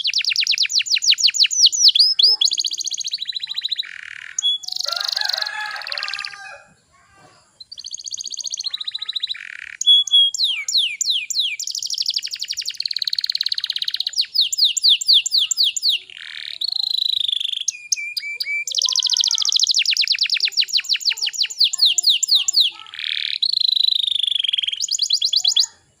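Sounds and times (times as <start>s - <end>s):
canary singing trills: 0.0s - 6.8s, 7.5s - 26.0s.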